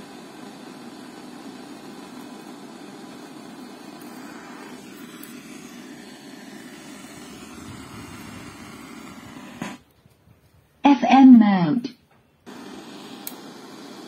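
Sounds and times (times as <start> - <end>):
radio static hiss: 0.0 - 9.9, 12.5 - 14.0.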